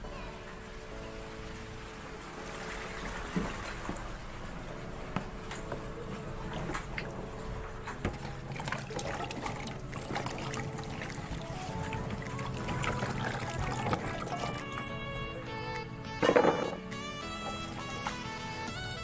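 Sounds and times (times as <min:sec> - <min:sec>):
water splashing and trickling: 0:00.1 - 0:19.0.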